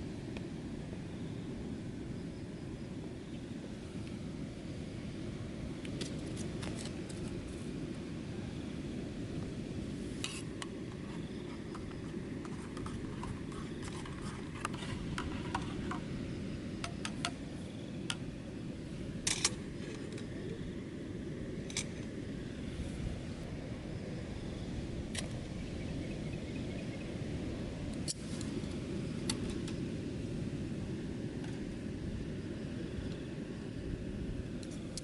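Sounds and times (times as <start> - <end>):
low rumble of wind: 0.0 - 35.0.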